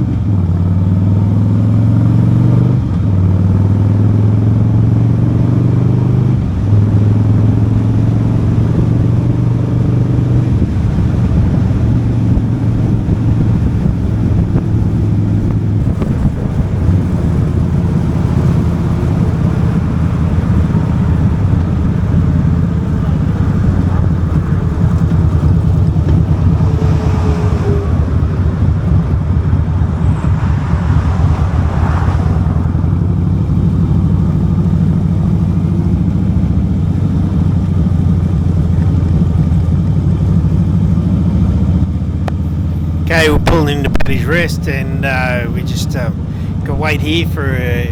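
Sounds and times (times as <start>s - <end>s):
motorcycle engine riding: 0.0s - 44.0s
road and wind noise: 0.0s - 47.9s.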